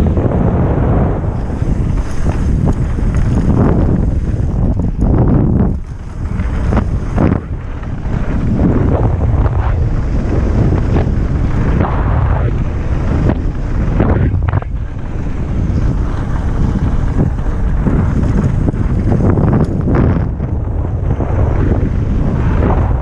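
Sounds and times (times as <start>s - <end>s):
bike tyre noise: 0.0s - 23.0s
wind on camera microphone: 0.0s - 23.0s.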